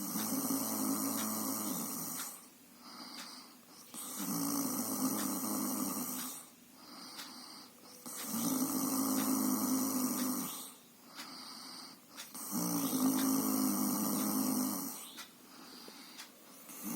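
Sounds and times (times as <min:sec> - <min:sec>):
person snoring: 0:00.0 - 0:15.1, 0:16.7 - 0:16.9
soft breaths: 0:00.0 - 0:16.9.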